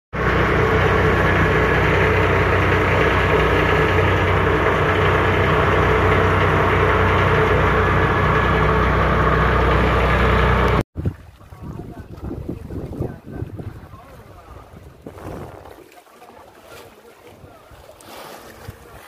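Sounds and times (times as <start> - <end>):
boat engine humming: 0.1 - 19.0.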